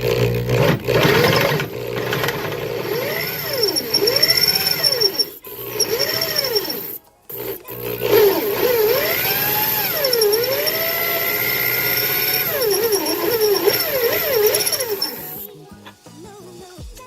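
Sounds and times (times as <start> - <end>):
electric drill boring into metal: 0.0 - 15.6.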